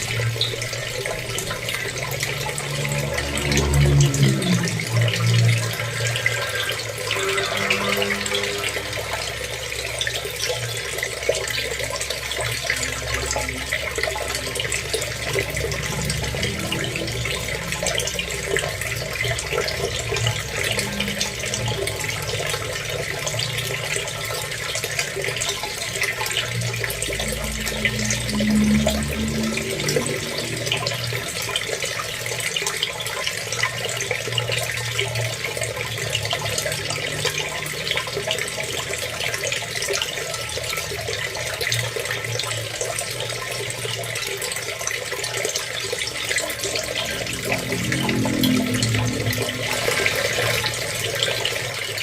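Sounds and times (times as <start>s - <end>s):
water running and splashing: 0.0s - 52.0s.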